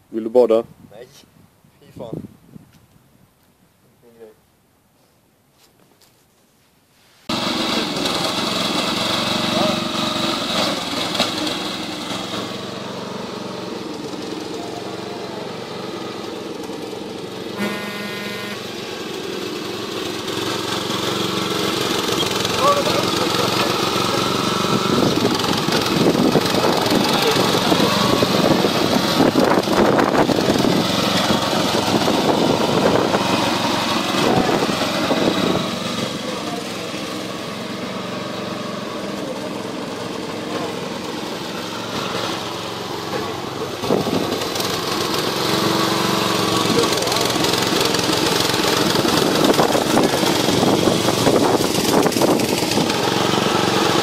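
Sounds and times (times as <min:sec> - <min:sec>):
lawn mower engine running: 0:07.3 - 0:54.0.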